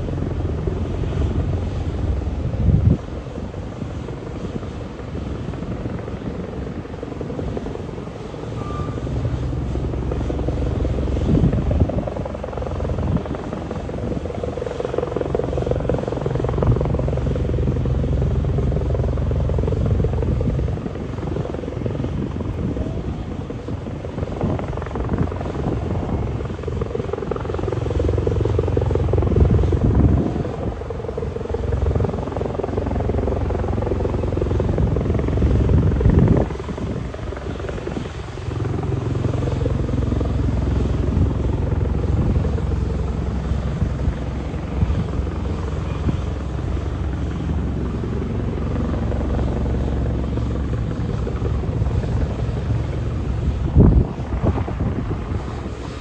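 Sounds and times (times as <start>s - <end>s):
helicopter rotor and turbine: 0.0s - 56.0s.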